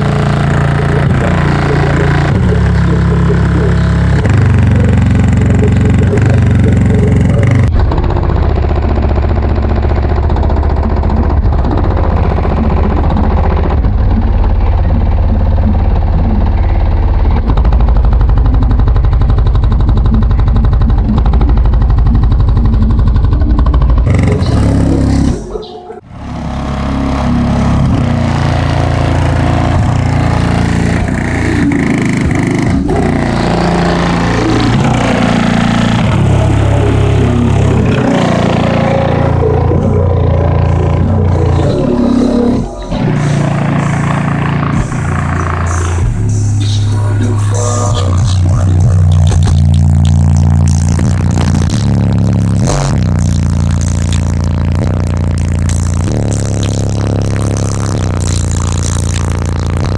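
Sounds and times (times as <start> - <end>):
rap music with deep bass: 0.0 - 7.8, 11.3 - 59.9.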